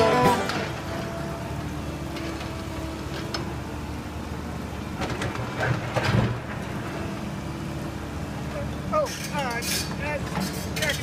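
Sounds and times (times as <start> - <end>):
machinery engine hum: 0.0 - 11.0.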